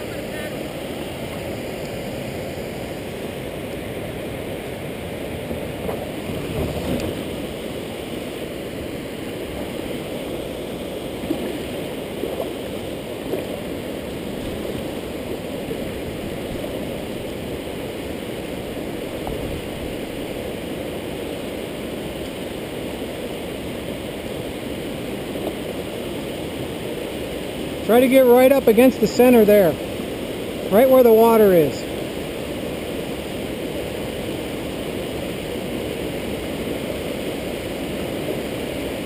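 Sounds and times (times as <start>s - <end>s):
water rushing over dam: 0.0s - 39.0s.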